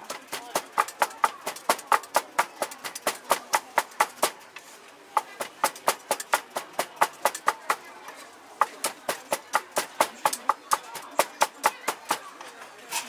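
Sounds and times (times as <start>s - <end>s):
cleavers chopping on block: 0.0s - 4.4s, 5.2s - 7.9s, 8.6s - 12.2s.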